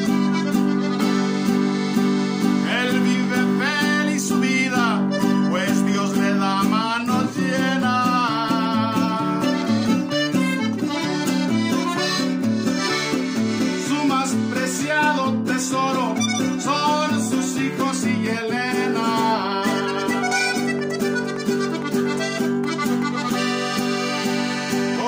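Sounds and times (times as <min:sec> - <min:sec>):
acoustic guitar accompaniment: 0:00.0 - 0:25.0
button accordion melody: 0:00.0 - 0:25.0.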